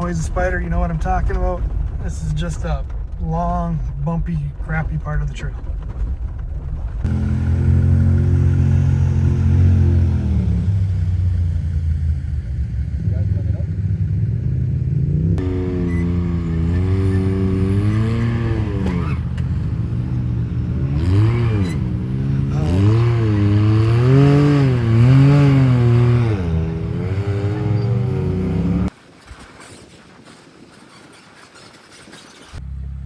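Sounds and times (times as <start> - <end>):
off-road engine under load: 0.0 - 33.0.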